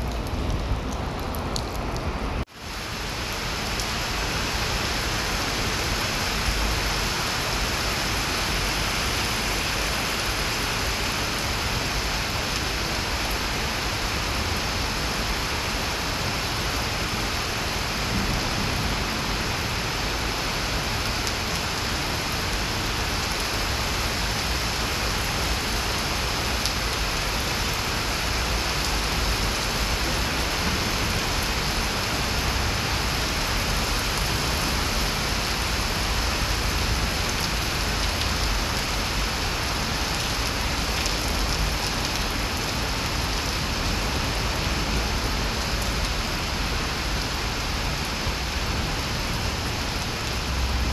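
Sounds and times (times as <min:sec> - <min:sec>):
heavy rain on trees and paving: 0:00.0 - 0:50.9.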